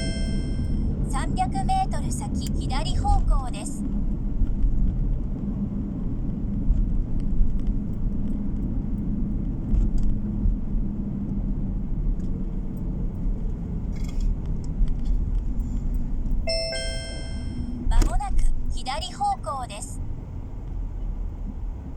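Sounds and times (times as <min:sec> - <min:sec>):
car cabin road noise: 0:00.0 - 0:21.9.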